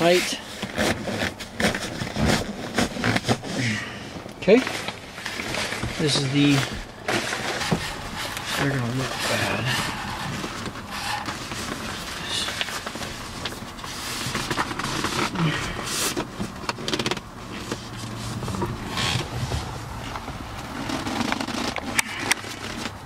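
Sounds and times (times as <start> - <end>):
fabric rustling and scraping: 0.0 - 23.0.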